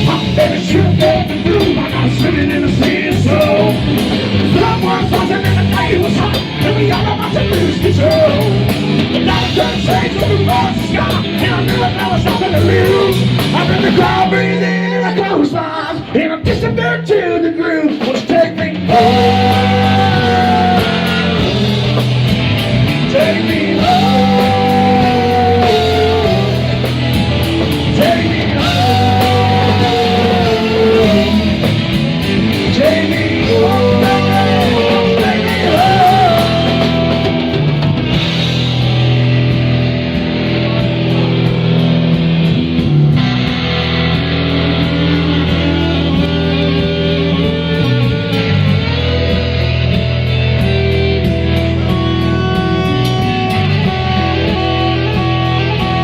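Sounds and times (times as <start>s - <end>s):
bending lead guitar melody: 0.0s - 16.7s, 18.6s - 56.0s
bass and drums: 0.0s - 56.0s
live rock band playing: 0.0s - 56.0s.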